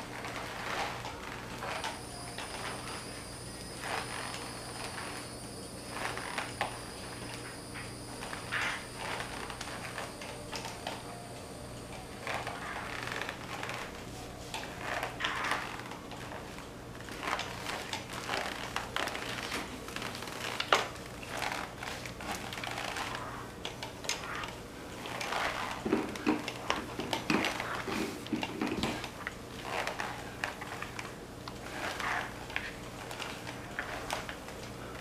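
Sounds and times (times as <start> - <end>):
wet mop scrubbing tile floor: 0.0 - 11.0, 11.8 - 35.0.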